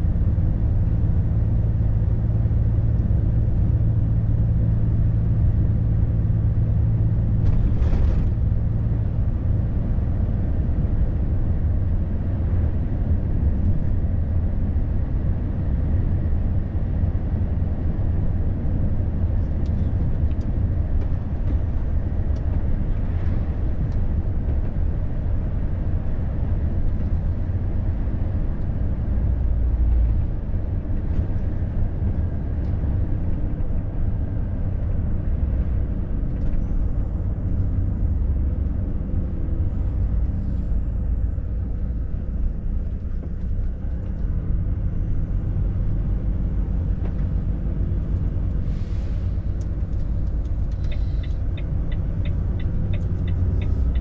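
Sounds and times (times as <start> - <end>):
truck diesel engine hum: 0.0 - 54.0
tyre and road noise: 0.0 - 54.0.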